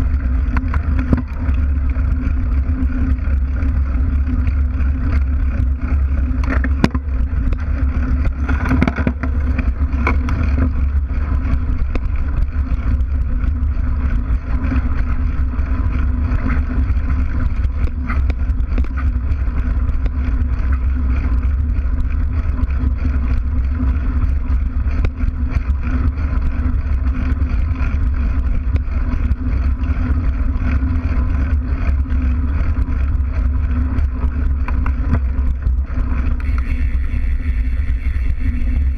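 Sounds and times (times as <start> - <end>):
bike tyre rumbling on dirt: 0.0 - 38.9
grit and stones clicking: 0.0 - 38.9.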